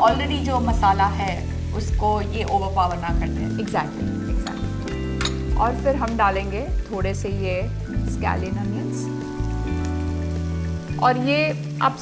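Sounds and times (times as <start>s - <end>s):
background music: 0.0s - 12.0s
scallions sizzling in a pan: 0.0s - 12.0s.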